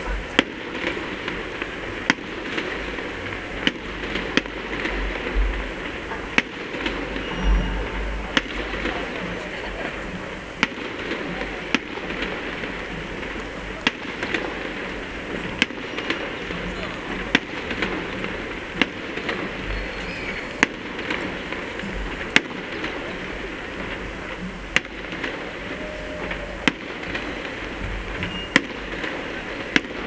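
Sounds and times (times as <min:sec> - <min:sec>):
crowd chatter: 0:00.0 - 0:30.0
fireworks bangs: 0:00.0 - 0:30.0.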